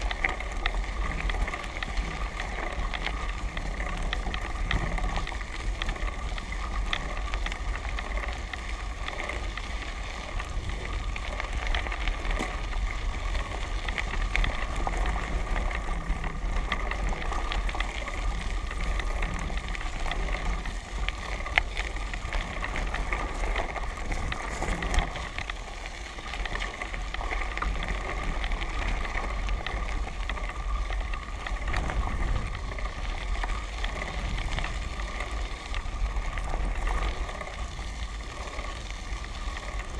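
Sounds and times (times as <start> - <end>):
tyres rolling over gravel: 0.0 - 39.9
wind rumble on microphone: 0.0 - 39.9.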